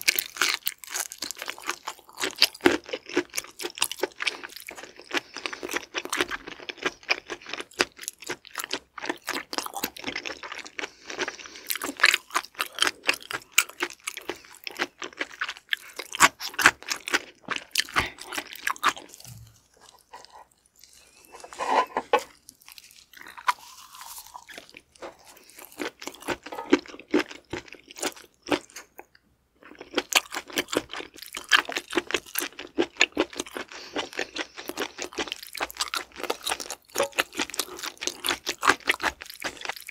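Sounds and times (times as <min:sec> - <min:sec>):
wet crunchy chewing: 0:00.0 - 0:39.9.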